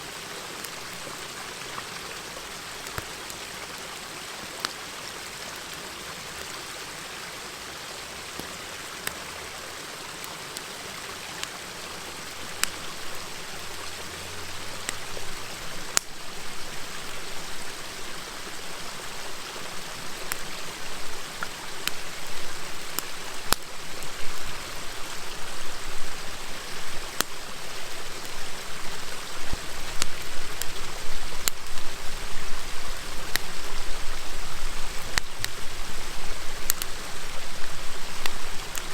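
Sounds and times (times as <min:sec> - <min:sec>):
river flowing: 0:00.0 - 0:38.9
campfire crackling and popping: 0:00.1 - 0:06.6, 0:08.1 - 0:38.9.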